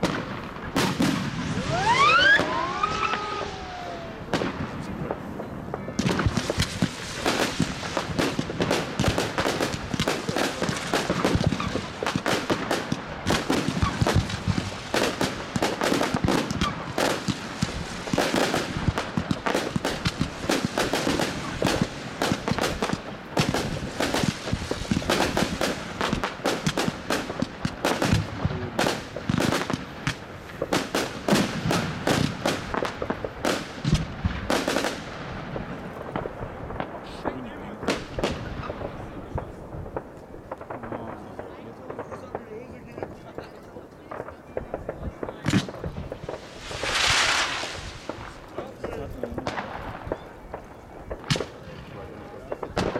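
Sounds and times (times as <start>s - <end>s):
fireworks firing with bangs and crackle: 0.0s - 52.9s.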